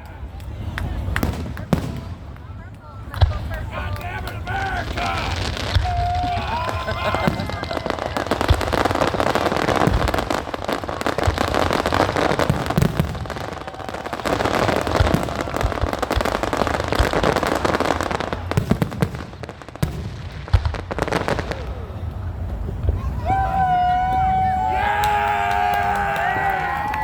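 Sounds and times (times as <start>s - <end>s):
fireworks crackling: 0.0s - 27.0s
fireworks low booms: 0.6s - 23.4s.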